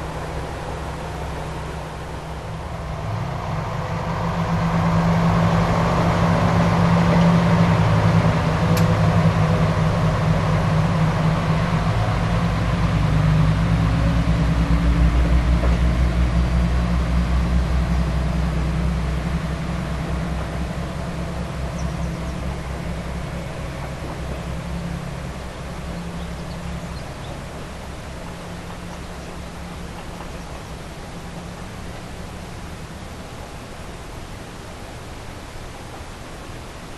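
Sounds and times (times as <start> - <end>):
diesel railcar engine rumbling: 0.0 - 36.9.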